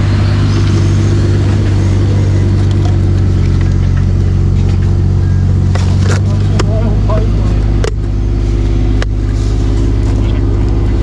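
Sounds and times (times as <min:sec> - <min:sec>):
heavy equipment engine running: 0:00.0 - 0:11.0.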